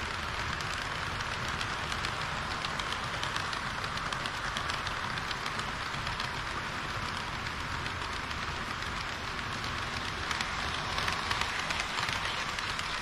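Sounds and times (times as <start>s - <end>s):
clicks over rail joints: 0.0s - 13.0s
model train wheels rattling: 0.0s - 13.0s.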